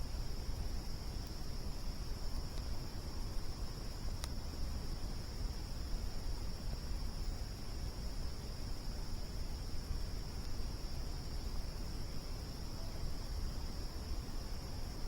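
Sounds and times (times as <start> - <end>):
campfire crackling: 0.0 - 15.0
crickets chirring: 0.0 - 15.0.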